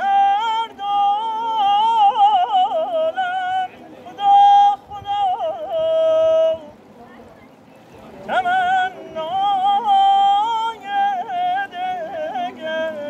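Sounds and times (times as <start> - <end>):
man singing with trills: 0.0 - 6.8, 8.3 - 13.0.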